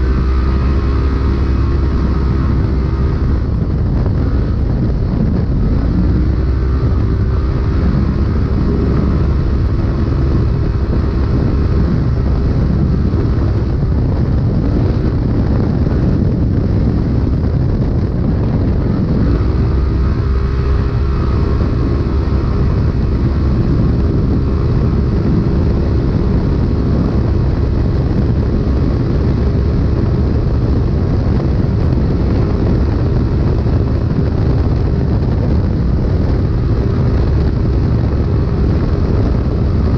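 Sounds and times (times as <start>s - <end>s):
utility vehicle engine running hard: 0.0s - 39.9s.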